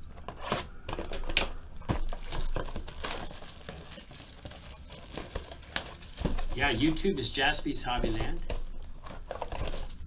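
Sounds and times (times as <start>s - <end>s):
plastic shrink wrap crinkling: 0.3s - 10.0s
plastic wrap ripping: 1.1s - 10.0s.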